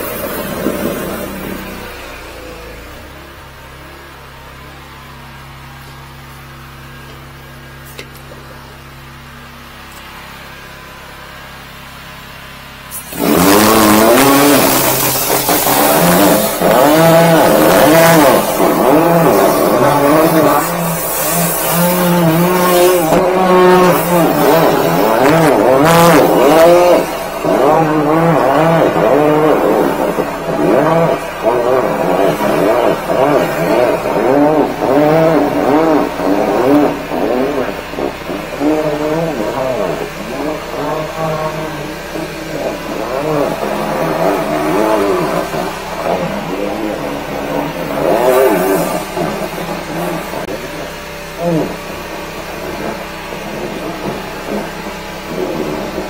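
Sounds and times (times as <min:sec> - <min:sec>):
water spraying hiss: 0:00.0 - 0:02.9, 0:12.9 - 0:56.0
sewer jetter whining: 0:00.0 - 0:56.0.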